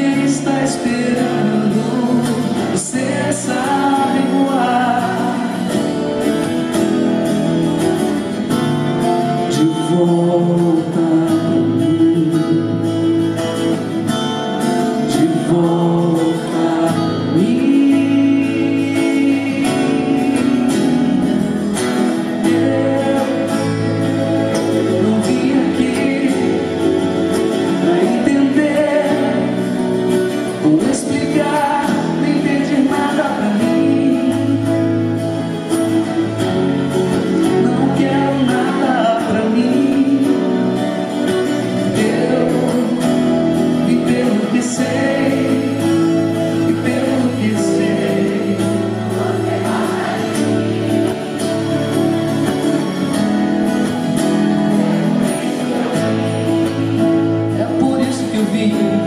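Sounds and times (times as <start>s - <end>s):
acoustic guitar: 0.0s - 59.0s.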